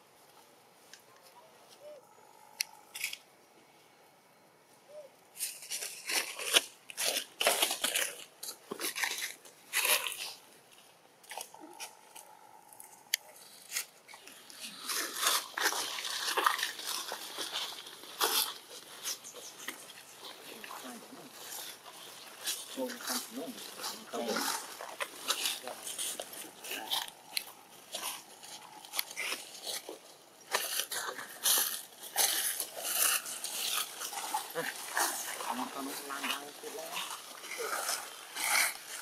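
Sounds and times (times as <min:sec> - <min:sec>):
footsteps crunching dry leaves: 0:05.4 - 0:39.0.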